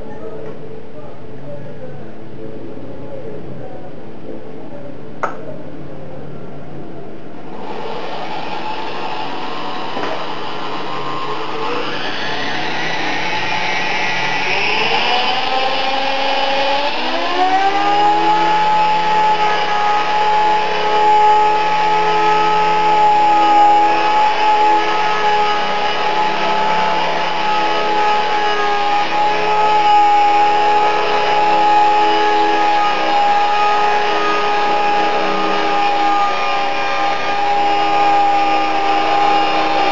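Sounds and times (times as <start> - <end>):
rc helicopter motor and rotor whine: 7.5 - 39.9.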